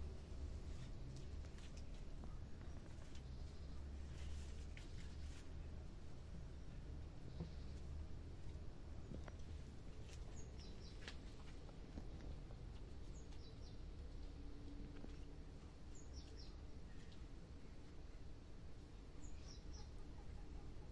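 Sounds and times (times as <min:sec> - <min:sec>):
low ambient rumble: 0:00.0 - 0:20.9
small birds chirping: 0:00.0 - 0:20.9.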